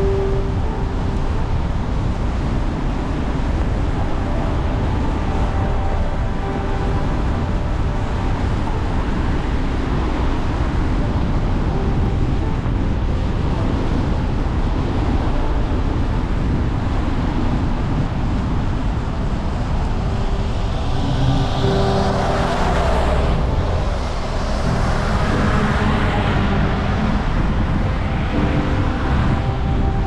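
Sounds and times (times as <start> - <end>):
low engine hum: 0.0 - 30.0
tyre and road noise: 0.0 - 30.0.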